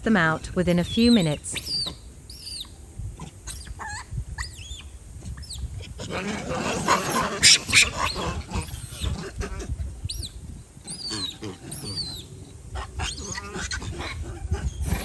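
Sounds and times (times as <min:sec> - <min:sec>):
monkeys chirping: 0:00.5 - 0:02.8, 0:03.4 - 0:05.7, 0:06.4 - 0:15.0
monkeys screaming: 0:00.7 - 0:02.7, 0:03.4 - 0:10.3, 0:10.9 - 0:15.0.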